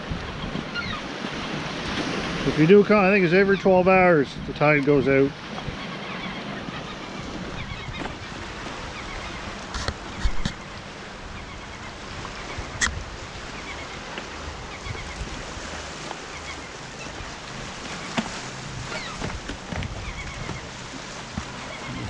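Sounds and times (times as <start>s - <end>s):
wind on microphone: 0.0s - 2.6s, 6.6s - 22.0s
surf washing on shore: 0.0s - 22.0s.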